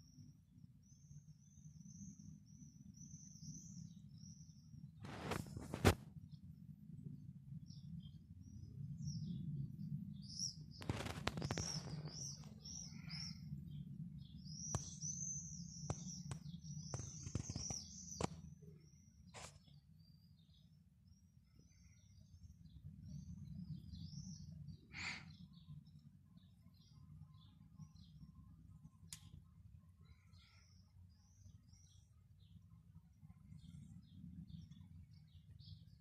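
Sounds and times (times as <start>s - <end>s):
small birds chirping: 0.0s - 6.6s, 7.5s - 36.0s
steady low rumble: 0.0s - 36.0s.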